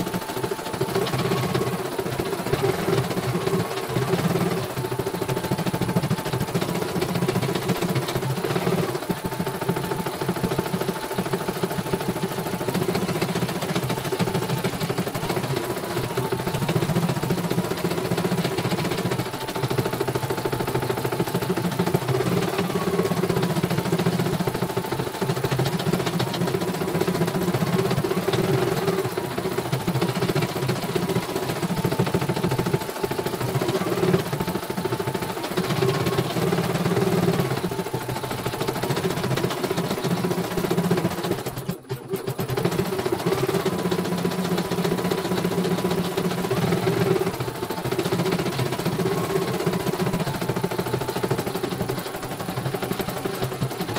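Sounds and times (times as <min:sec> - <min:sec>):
embroidery machine needle chatter: 0:00.0 - 0:53.9.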